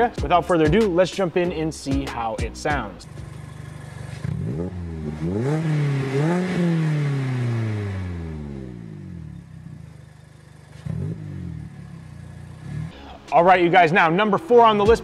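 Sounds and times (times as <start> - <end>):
car engine idling and revving: 0.0 - 13.3.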